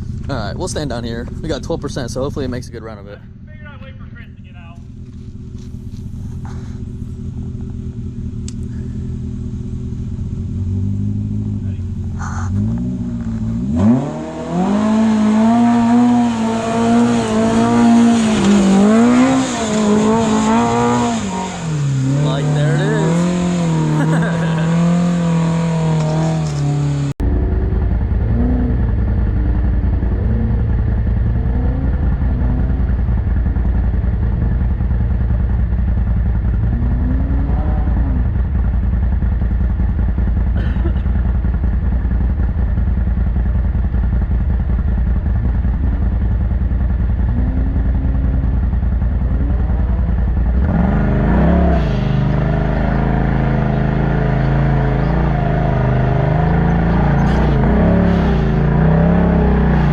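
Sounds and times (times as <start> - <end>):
utility vehicle engine revving: 4.4 - 59.9.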